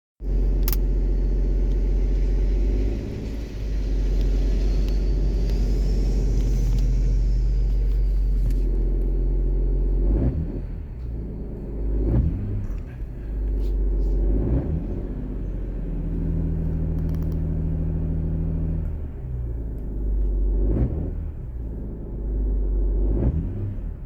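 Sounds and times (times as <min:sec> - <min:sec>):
car engine idling with knocking rattle: 0:00.2 - 0:24.0.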